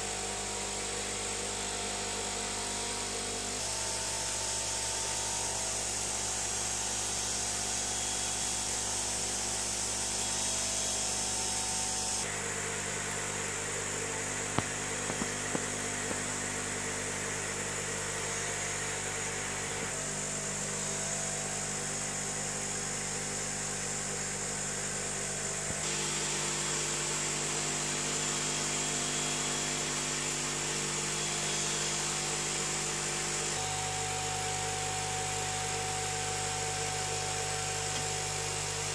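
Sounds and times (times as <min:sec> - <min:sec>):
air pump hum: 0:00.0 - 0:38.9.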